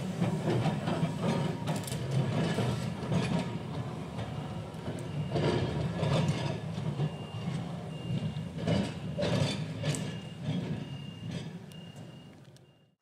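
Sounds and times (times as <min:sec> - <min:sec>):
tram wheels clattering: 0:00.0 - 0:12.7
tram rumbling on track: 0:00.0 - 0:12.9.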